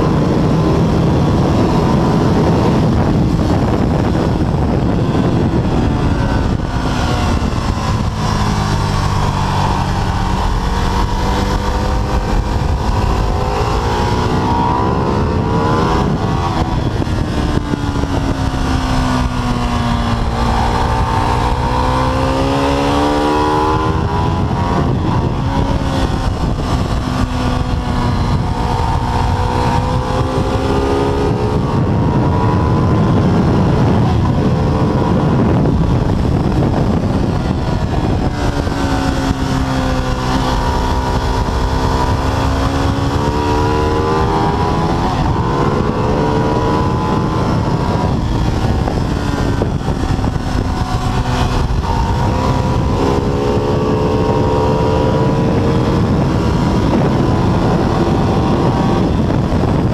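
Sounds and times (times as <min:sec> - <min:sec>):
motorcycle engine revving: 0:00.0 - 0:59.9
wind rushing: 0:00.0 - 0:59.9.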